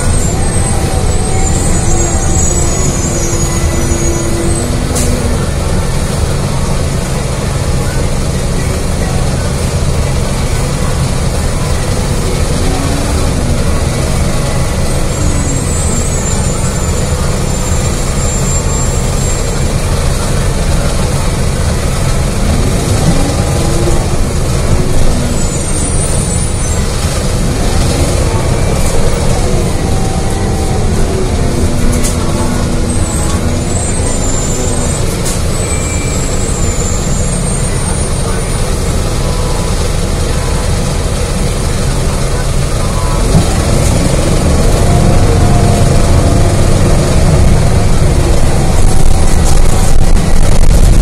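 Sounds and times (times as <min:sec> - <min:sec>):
bus engine and road rumble: 0:00.0 - 0:51.0.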